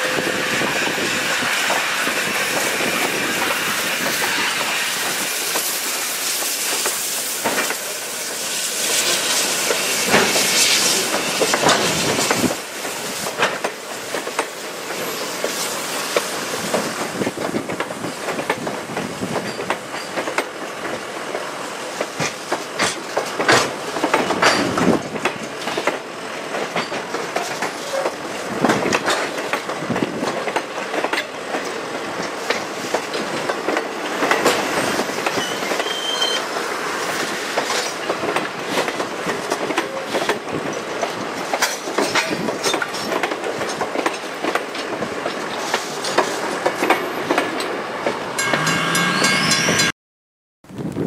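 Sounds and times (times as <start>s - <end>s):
train rumble: 0.0s - 49.9s
train wheels clattering over rail joints: 1.1s - 49.9s.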